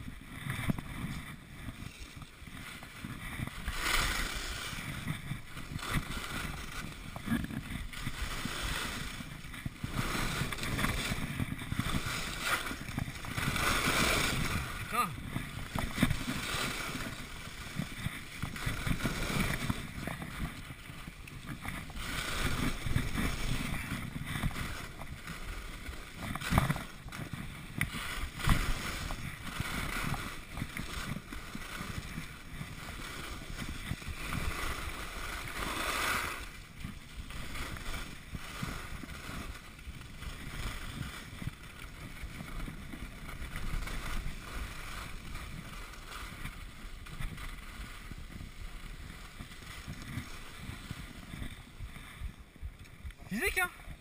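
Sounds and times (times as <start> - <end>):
skis scraping over snow: 0.0 - 54.0
wind rushing over microphone: 0.0 - 54.0.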